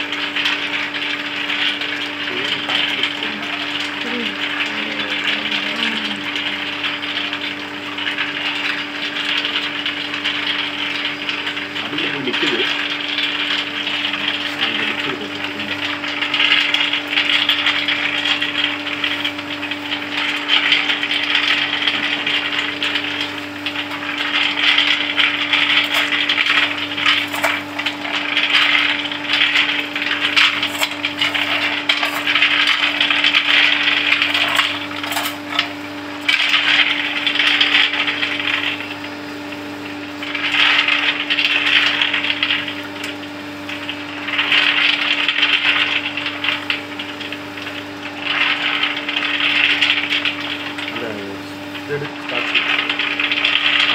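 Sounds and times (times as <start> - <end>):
machine hum: 0.0 - 53.9
nuts rattling in rotating pan: 0.0 - 53.9.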